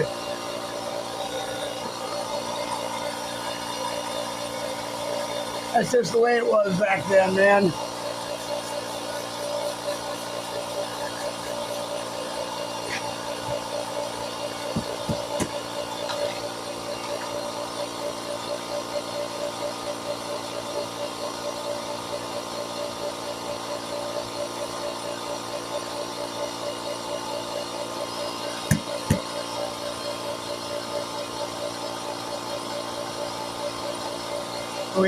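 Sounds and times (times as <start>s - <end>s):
air compressor pulsing: 0.0s - 35.0s.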